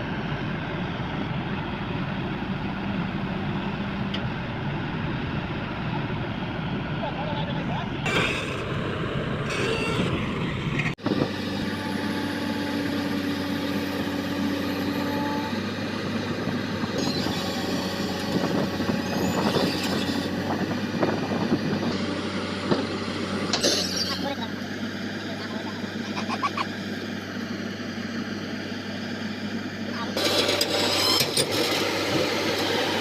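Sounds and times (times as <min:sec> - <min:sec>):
diesel machinery engine hum: 0:00.0 - 0:33.0.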